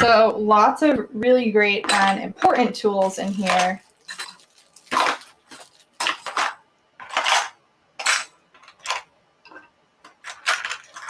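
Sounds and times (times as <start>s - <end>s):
metal tools clattering on plastic case: 1.8s - 11.0s.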